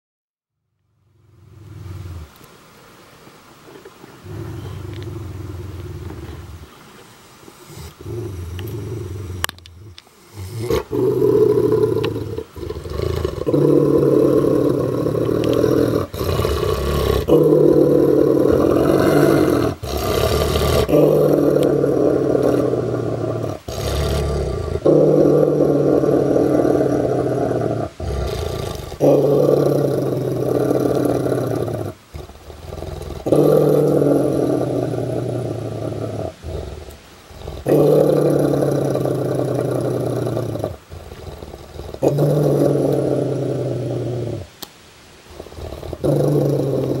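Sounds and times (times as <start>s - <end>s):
dog growling deep and low: 1.1s - 2.4s, 4.2s - 6.7s, 7.7s - 44.5s, 45.3s - 47.0s.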